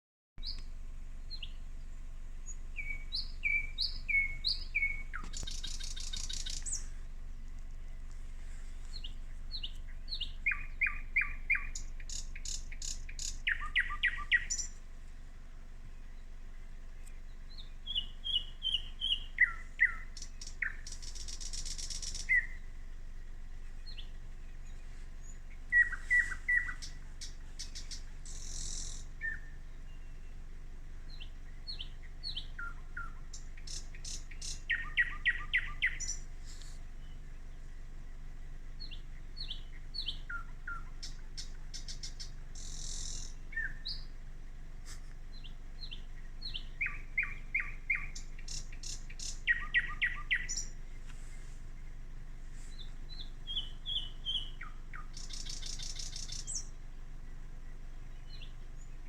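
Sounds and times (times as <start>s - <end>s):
low steady hum: 0.4s - 59.0s
nightingale singing: 0.4s - 59.0s.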